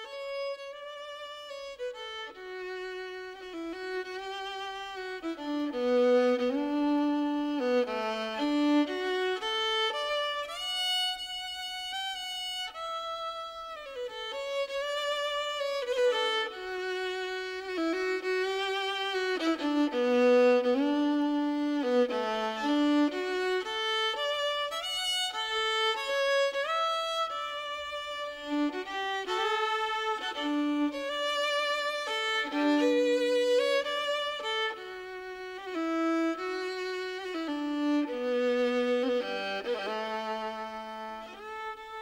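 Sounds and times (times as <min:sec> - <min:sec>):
solo violin slow melody: 0:00.0 - 0:42.0.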